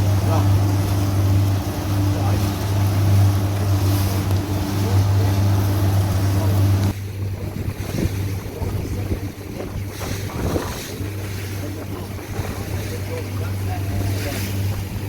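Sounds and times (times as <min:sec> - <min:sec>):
boat engine humming: 0:00.0 - 0:15.0
sea water: 0:00.0 - 0:15.0
wind: 0:00.0 - 0:15.0.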